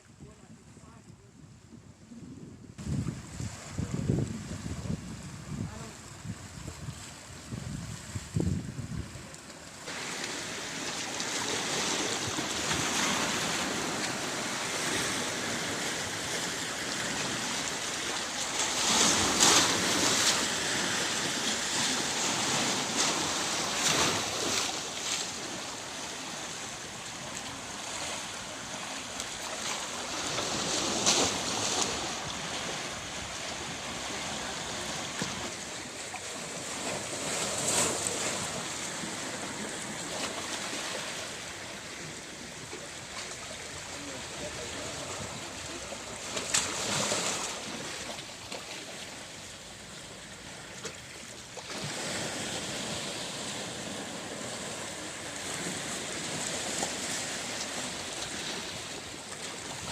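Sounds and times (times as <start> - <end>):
waves breaking on shore: 2.8 - 59.9.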